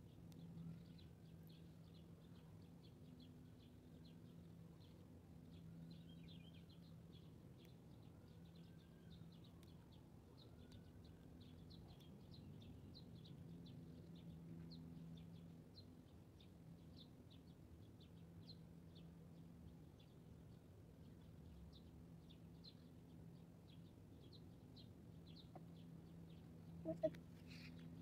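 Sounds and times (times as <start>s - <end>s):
low steady hum: 0.0s - 28.0s
small birds chirping: 0.0s - 28.0s.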